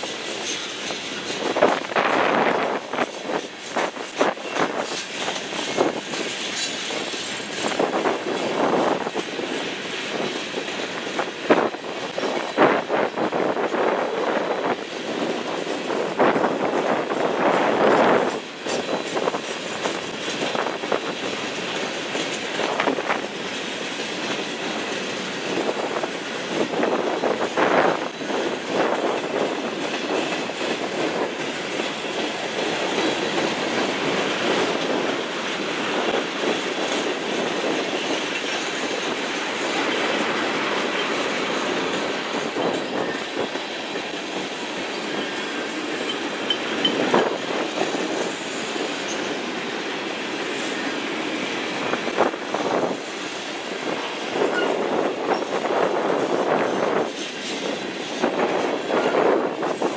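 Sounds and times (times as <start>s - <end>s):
clanks over rail joints: 0.0s - 59.8s
train wheels rushing on rail: 0.0s - 59.9s.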